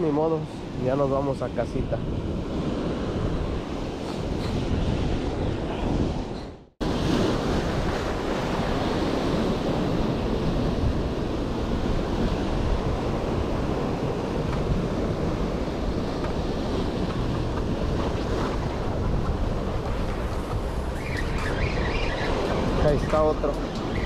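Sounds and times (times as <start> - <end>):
ocean surf on a beach: 0.0 - 24.0
wind buffeting microphone: 0.0 - 24.0.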